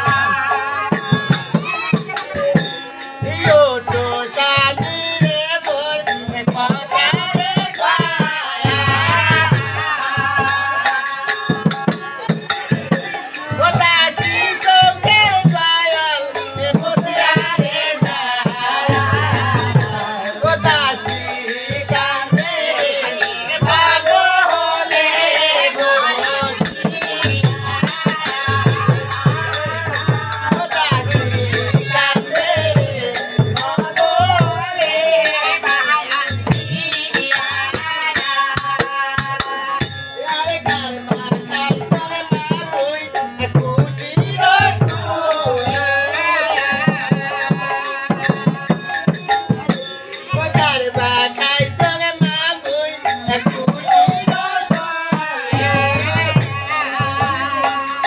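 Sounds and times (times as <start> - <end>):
sharp percussion strikes: 0.0 - 58.0.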